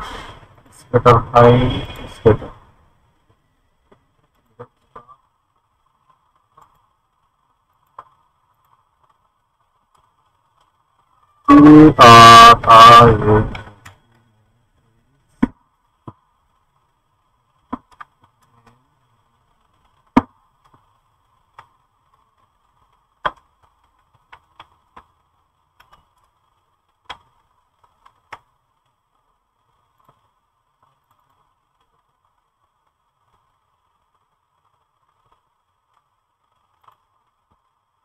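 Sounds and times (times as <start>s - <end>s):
faint steady whine: 0.0s - 38.0s.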